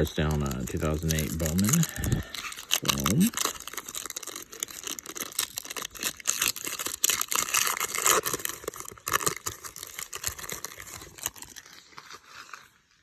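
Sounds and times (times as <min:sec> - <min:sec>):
cards rustling and clicking: 0:00.0 - 0:13.0
foil wrapper crinkling and tearing: 0:00.0 - 0:13.0.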